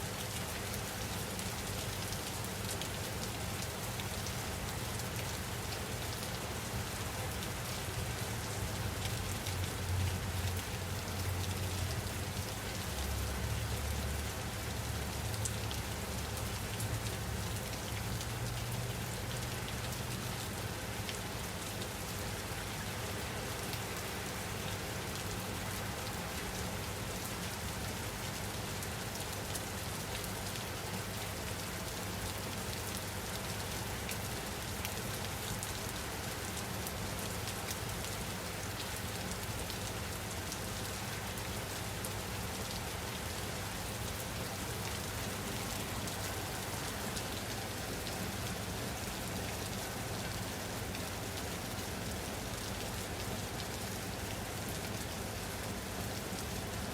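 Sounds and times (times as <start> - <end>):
rain pattering on a surface: 0.0 - 56.9.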